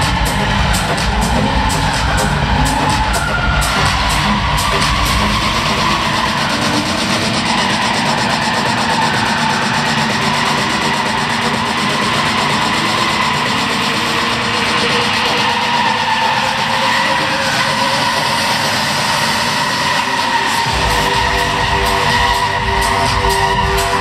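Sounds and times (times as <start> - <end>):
car engines running hard: 0.0 - 24.0.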